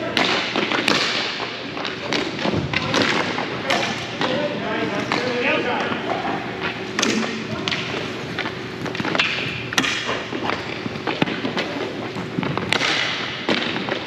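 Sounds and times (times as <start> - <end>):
background murmur: 0.0 - 12.6.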